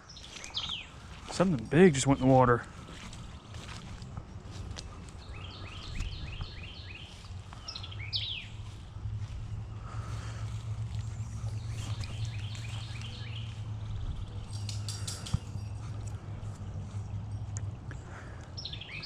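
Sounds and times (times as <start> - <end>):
birds chirping: 0.0 - 19.0
steady low hum: 2.6 - 18.6.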